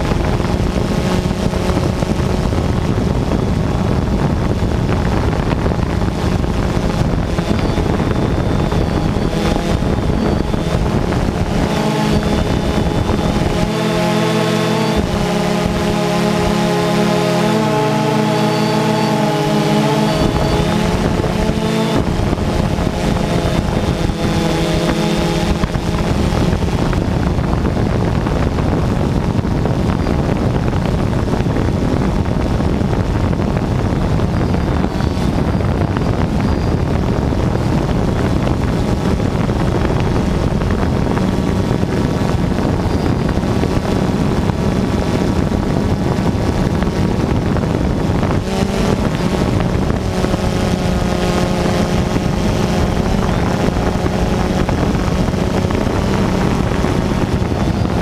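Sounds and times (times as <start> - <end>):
drone propellers buzzing: 0.0 - 58.0
wind noise: 0.0 - 58.0.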